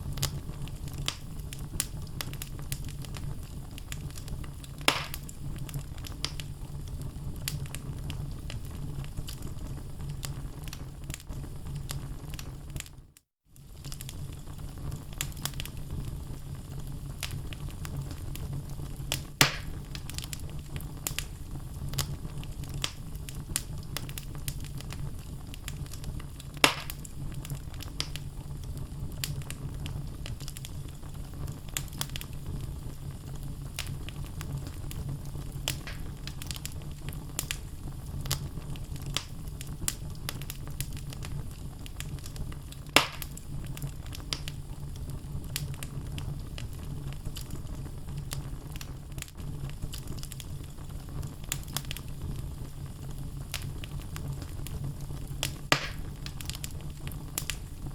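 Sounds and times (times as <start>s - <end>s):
logs crackling and popping: 0.0s - 13.0s, 13.6s - 57.9s
loud fire snaps: 0.0s - 13.0s, 13.6s - 57.9s
low rumble of flame: 0.0s - 57.9s.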